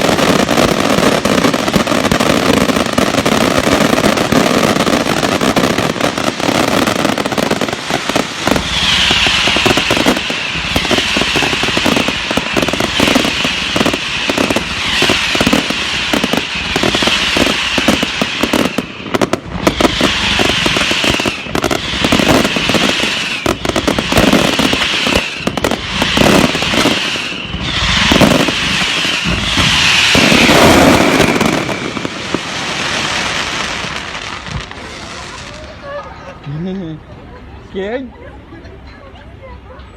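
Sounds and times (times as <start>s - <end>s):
firework bangs: 0.0s - 35.9s
hissing firework bursts: 0.0s - 36.4s
firecrackers crackling: 0.0s - 37.8s.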